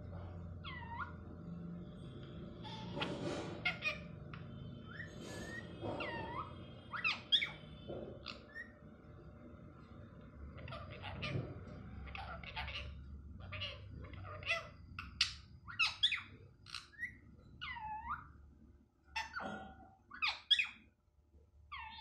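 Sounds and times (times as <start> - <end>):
parrot calls and chatter: 0.0 - 21.0, 21.7 - 22.0.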